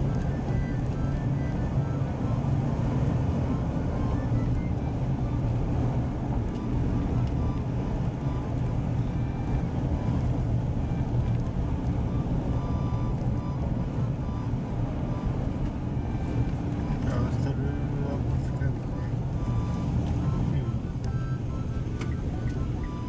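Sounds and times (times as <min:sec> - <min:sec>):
car driving from inside: 0:00.0 - 0:23.0.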